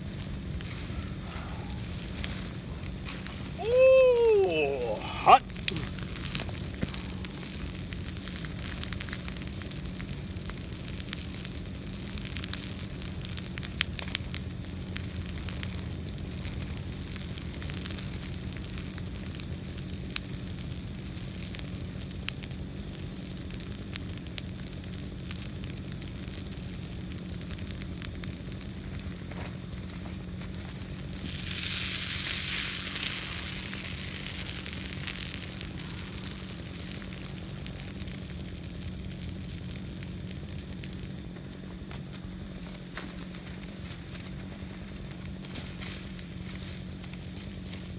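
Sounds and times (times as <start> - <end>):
branches burning and crackling: 0.0 - 47.9.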